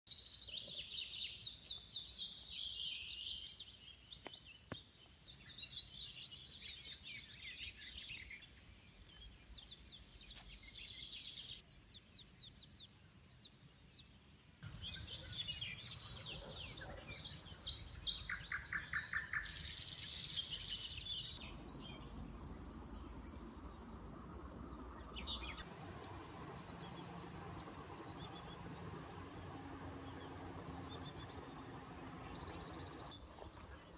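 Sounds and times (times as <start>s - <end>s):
songbirds singing: 0.1s - 33.9s
outdoor background hiss: 0.2s - 33.9s.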